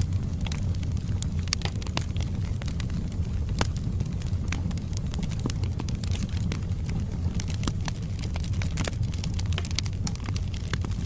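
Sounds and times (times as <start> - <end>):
logs crackling and popping: 0.0 - 11.0
low rumble of flames: 0.0 - 11.0.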